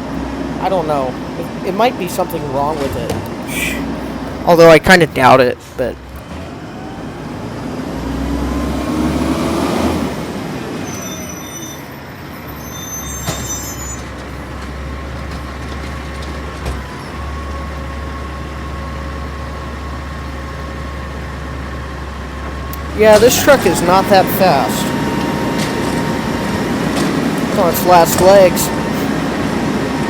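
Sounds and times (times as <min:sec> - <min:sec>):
truck engine drone: 0:00.0 - 0:30.0.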